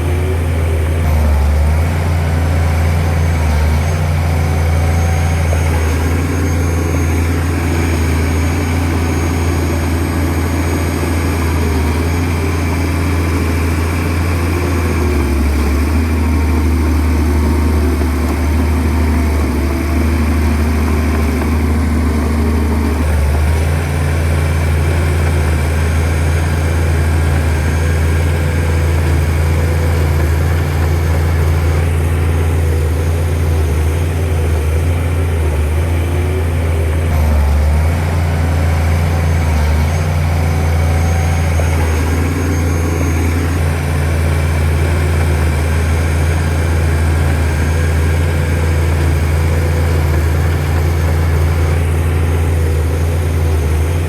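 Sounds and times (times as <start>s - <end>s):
bulldozer diesel engine humming: 0.0s - 54.0s.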